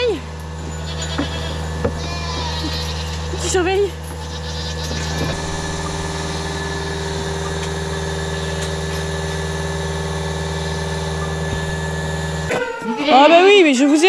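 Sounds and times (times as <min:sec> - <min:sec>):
mechanical hum with higher tone: 0:00.0 - 0:14.0.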